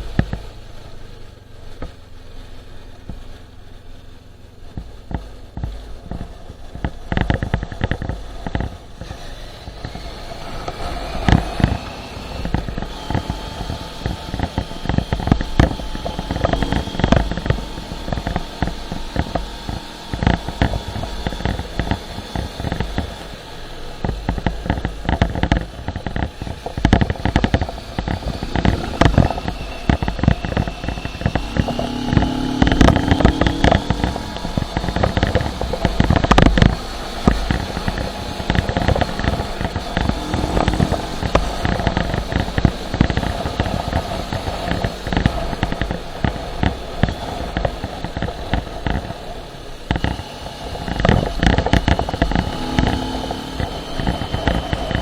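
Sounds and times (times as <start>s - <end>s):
motorcycle engine revving: 0.0s - 55.0s
wind buffeting microphone: 6.0s - 55.0s.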